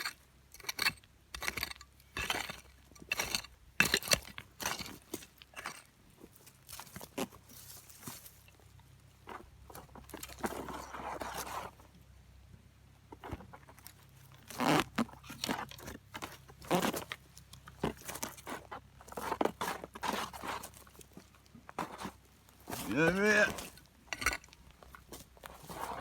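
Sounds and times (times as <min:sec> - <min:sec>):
gravel crunching and scraping: 0:00.0 - 0:12.1, 0:12.9 - 0:26.0.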